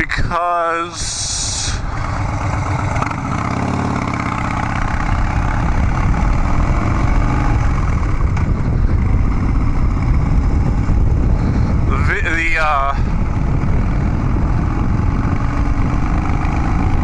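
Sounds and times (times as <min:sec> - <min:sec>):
motorcycle engine revving: 0:01.2 - 0:11.9, 0:12.6 - 0:17.0.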